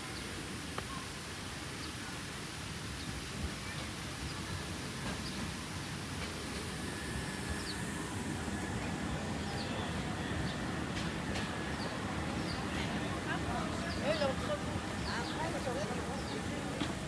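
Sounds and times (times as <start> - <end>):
city street noise: 0.0 - 17.0.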